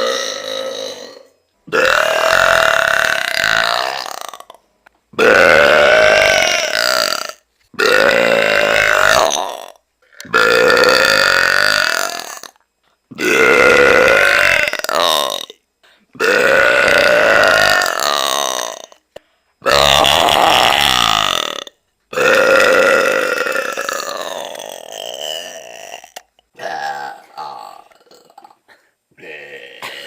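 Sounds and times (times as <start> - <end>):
woman belching loudly: 0.0 - 4.6, 5.2 - 12.6, 13.2 - 15.6, 16.2 - 19.0, 19.6 - 28.6.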